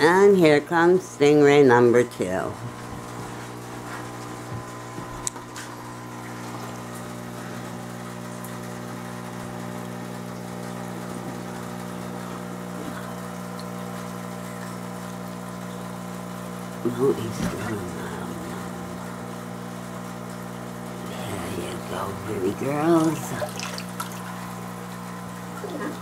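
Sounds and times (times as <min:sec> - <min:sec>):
aquarium pump humming: 0:00.0 - 0:26.0.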